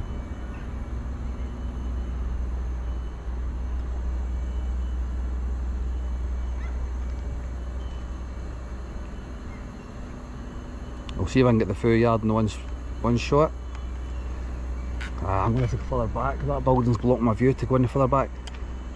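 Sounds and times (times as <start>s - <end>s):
steady low rumble: 0.0s - 18.9s.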